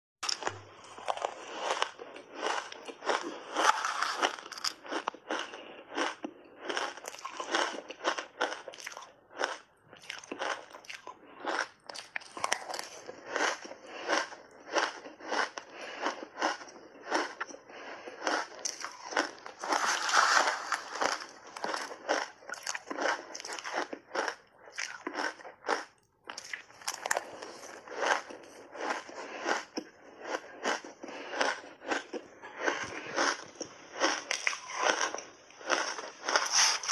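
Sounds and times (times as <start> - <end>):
crunching and chewing shaved ice: 0.2 - 36.9.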